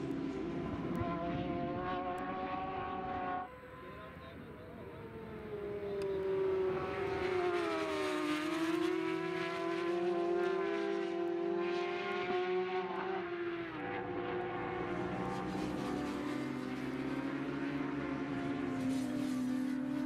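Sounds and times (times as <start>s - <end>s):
motorcycle engines revving high: 0.0s - 20.0s.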